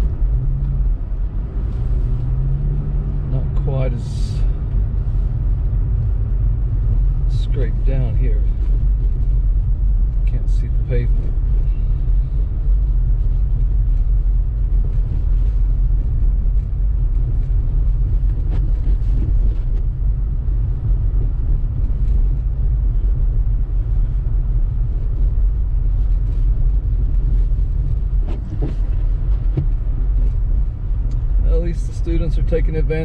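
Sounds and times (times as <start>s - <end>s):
car engine and tyres on snow: 0.0s - 33.0s.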